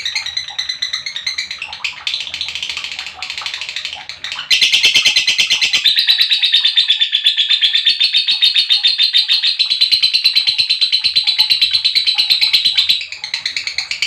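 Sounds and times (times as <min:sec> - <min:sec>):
lovebird rapid chirping: 0:00.0 - 0:14.0.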